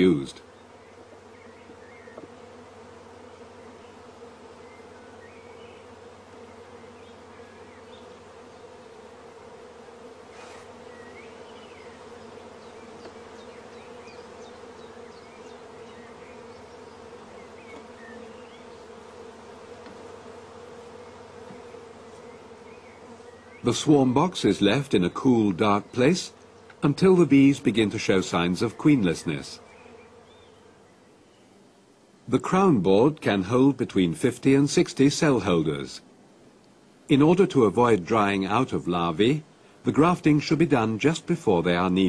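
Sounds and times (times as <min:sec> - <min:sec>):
bees buzzing: 0:00.0 - 0:42.0.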